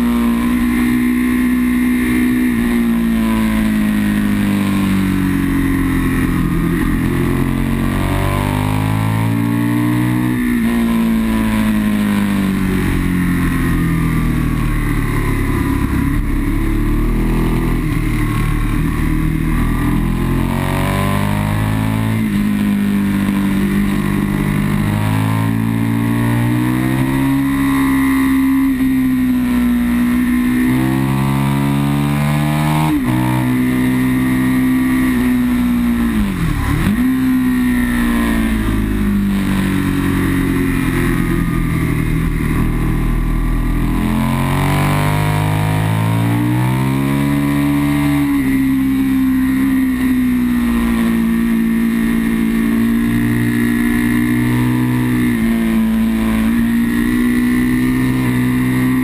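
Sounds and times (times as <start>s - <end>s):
motorcycle engine at full throttle: 0.0s - 59.0s.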